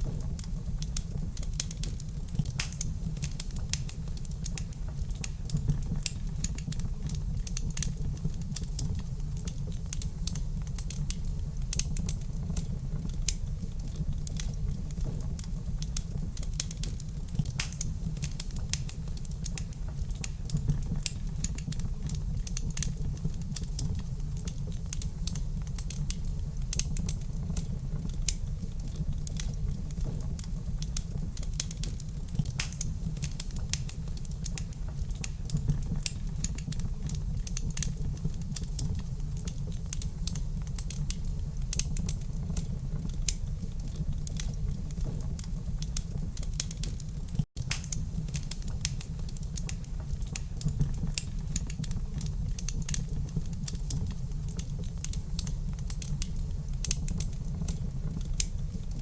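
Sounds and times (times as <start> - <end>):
low rumble of burning fire: 0.0 - 59.0
wood fire crackling: 0.0 - 59.0.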